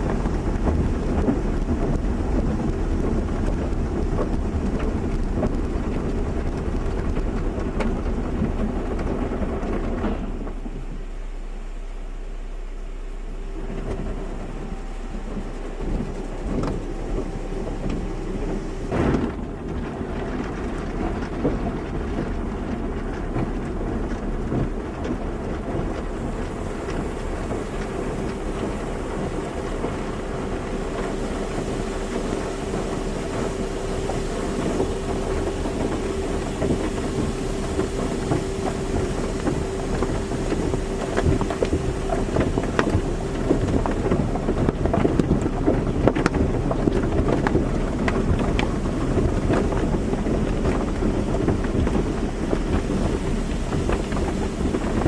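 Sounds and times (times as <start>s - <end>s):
machine hum: 0.0s - 55.0s
water spray rushing: 0.0s - 55.0s.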